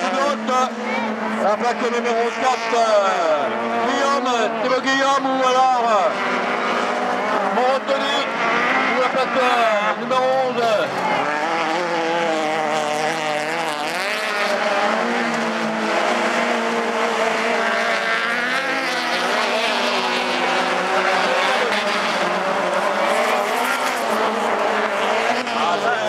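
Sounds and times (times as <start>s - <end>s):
racing car engines: 0.0s - 26.0s.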